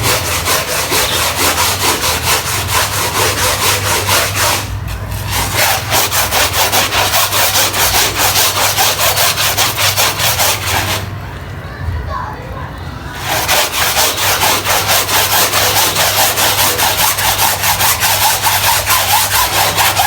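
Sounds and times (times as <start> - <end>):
brush scrubbing wet carpet: 0.0 - 11.1, 13.2 - 20.0.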